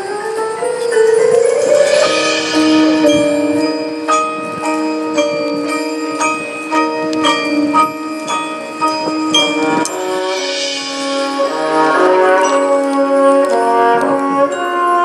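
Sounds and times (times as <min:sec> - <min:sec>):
bell-like struck notes: 0:00.4 - 0:15.0
marching band held chord: 0:01.4 - 0:05.6, 0:06.2 - 0:14.5.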